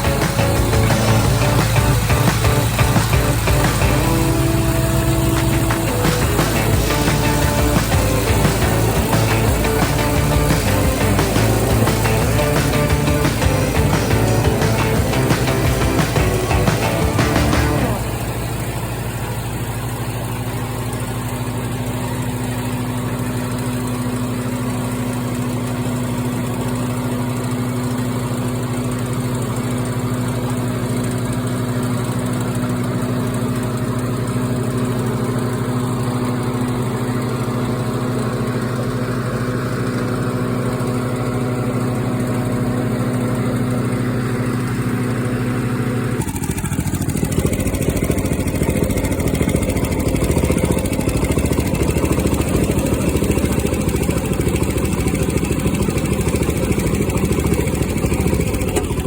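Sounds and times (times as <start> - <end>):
harvester engine running: 0.0 - 59.0.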